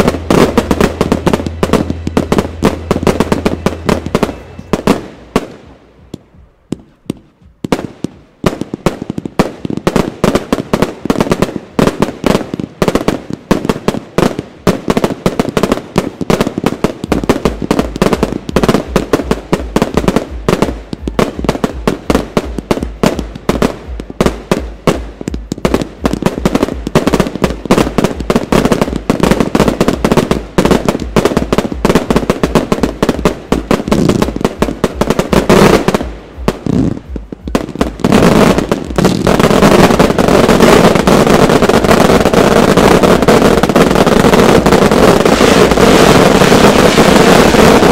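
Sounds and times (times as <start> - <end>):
fireworks bangs and crackle: 0.0 - 47.9.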